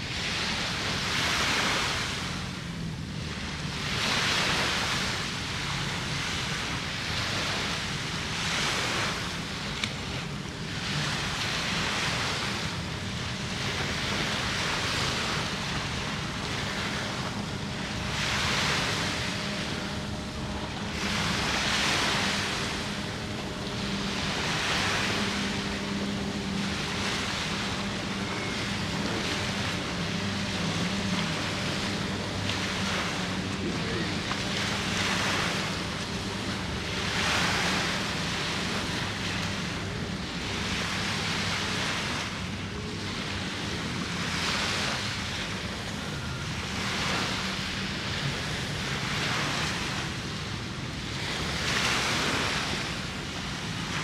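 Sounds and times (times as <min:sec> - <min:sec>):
low motor hum: 0:00.0 - 0:54.0
small waves breaking on a beach: 0:00.0 - 0:54.0.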